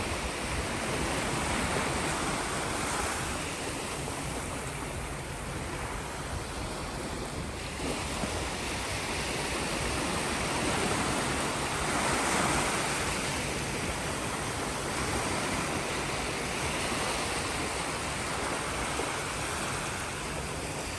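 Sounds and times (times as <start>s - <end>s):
sea waves washing onto shore: 0.0s - 20.9s.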